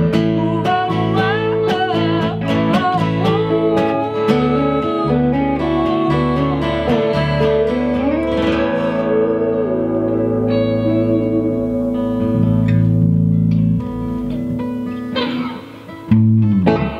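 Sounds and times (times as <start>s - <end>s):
electric bass line: 0.0s - 16.9s
electric guitar: 0.0s - 16.9s
strummed acoustic guitar: 0.0s - 16.9s.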